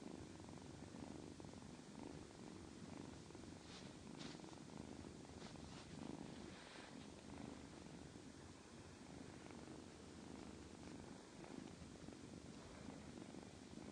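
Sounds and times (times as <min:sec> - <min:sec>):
cat purring: 0:00.0 - 0:13.9.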